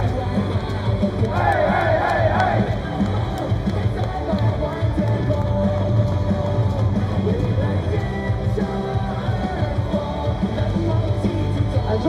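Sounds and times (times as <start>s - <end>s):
rock song over stadium loudspeakers: 0.0s - 12.0s.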